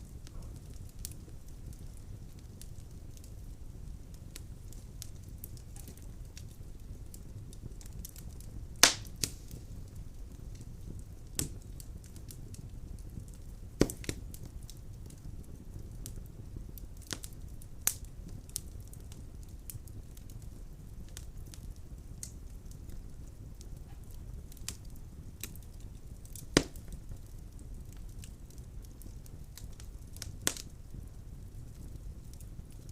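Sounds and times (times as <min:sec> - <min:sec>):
fire rumbling: 0:00.0 - 0:32.9
logs crackling and popping: 0:00.0 - 0:32.9.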